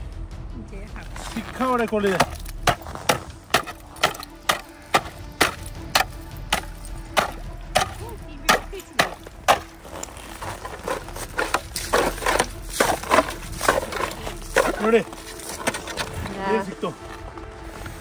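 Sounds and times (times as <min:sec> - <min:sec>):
metal shovel chopping ice: 0:01.6 - 0:16.4.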